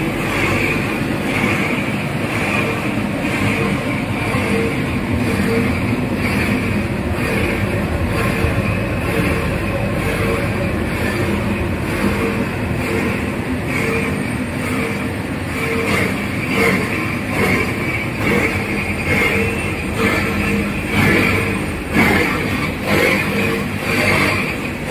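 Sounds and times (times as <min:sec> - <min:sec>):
granulator machine grinding cable: 0:00.0 - 0:24.9
pulsing machine hum: 0:00.0 - 0:24.9.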